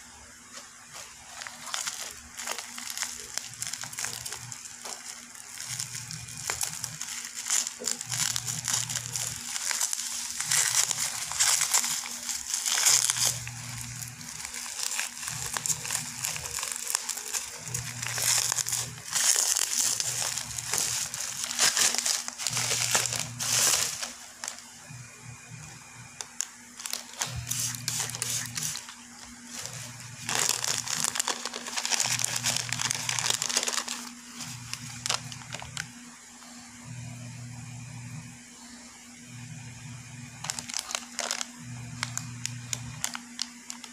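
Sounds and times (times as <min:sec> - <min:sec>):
bubble wrap crinkling: 0:00.0 - 0:36.1, 0:40.3 - 0:43.9.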